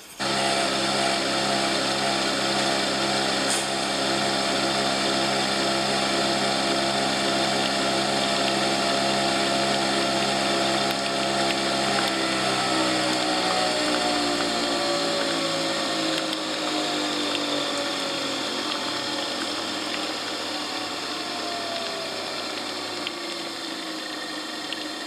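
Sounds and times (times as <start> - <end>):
coffee machine whirring and humming: 0.0 - 25.0.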